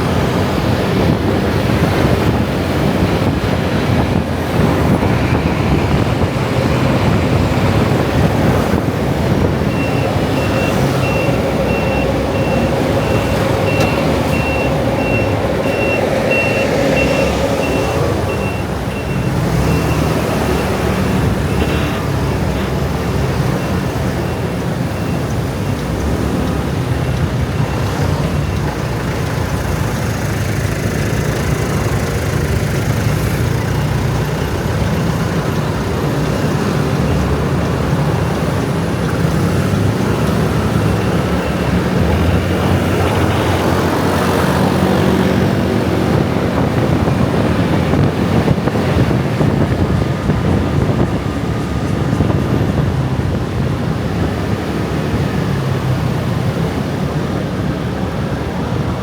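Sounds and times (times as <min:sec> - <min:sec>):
motor scooters passing: 0:00.0 - 0:59.0
road traffic passing: 0:00.0 - 0:59.0.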